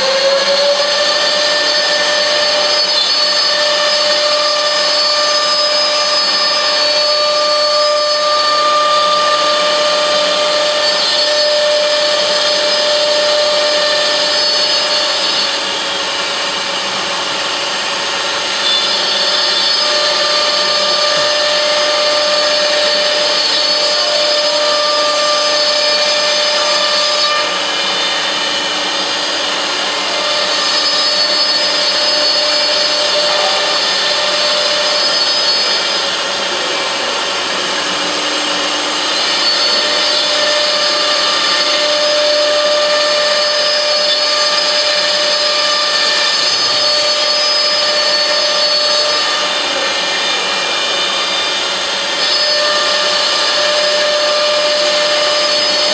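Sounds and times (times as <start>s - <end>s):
loud cutting hiss: 0.0s - 55.9s
router spindle whine: 0.0s - 55.9s.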